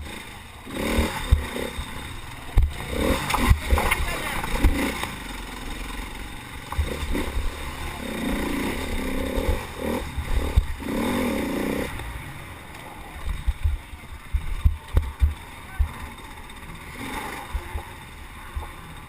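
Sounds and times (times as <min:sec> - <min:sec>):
small racing engine revving: 0:00.0 - 0:12.4, 0:14.3 - 0:19.0.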